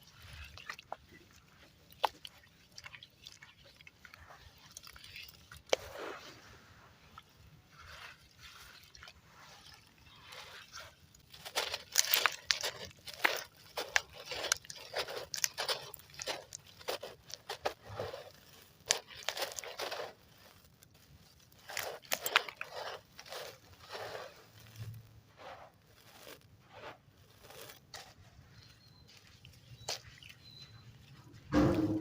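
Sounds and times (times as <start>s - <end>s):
cement chunks crunching in water: 0.0s - 32.0s.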